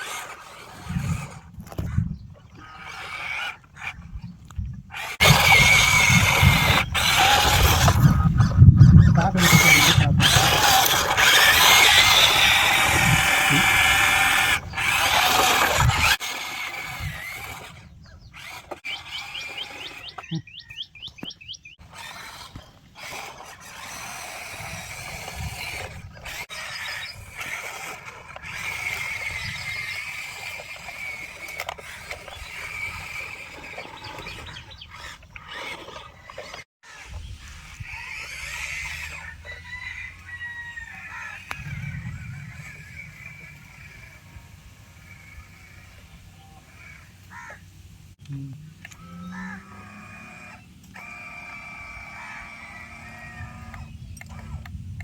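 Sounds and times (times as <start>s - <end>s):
toy electric motors whining: 0.0s - 47.6s, 48.2s - 55.0s
grinding and rumbling: 0.0s - 55.0s.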